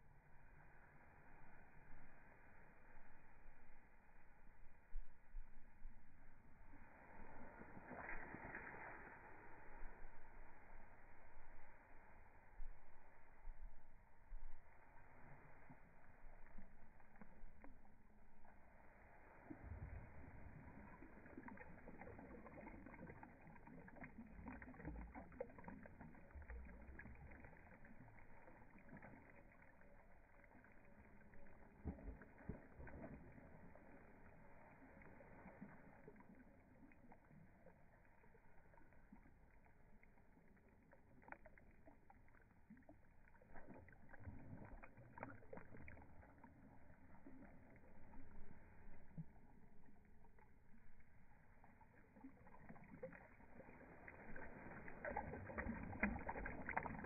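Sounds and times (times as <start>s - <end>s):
creek water lapping: 0.0s - 57.0s
soft splashes: 0.0s - 57.0s.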